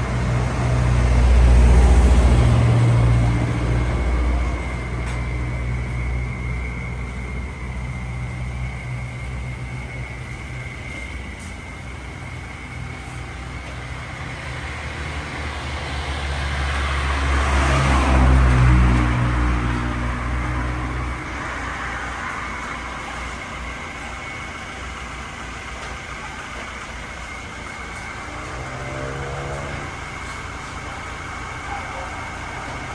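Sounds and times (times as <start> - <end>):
road noise: 0.0 - 32.9
vehicle engine rumble: 0.0 - 32.9
thin steady whine: 3.3 - 17.0, 19.0 - 32.9.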